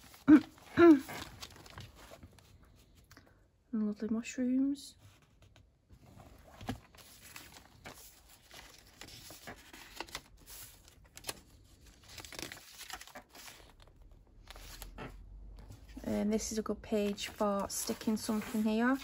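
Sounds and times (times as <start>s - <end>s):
paper rustling and crinkling: 0.0s - 3.1s, 5.1s - 19.0s.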